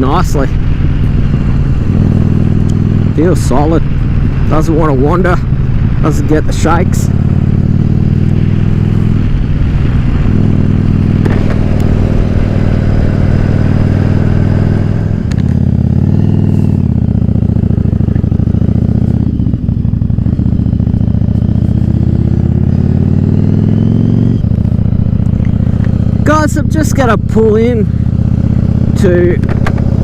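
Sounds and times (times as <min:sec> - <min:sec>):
motorcycle engine riding: 0:00.0 - 0:30.0.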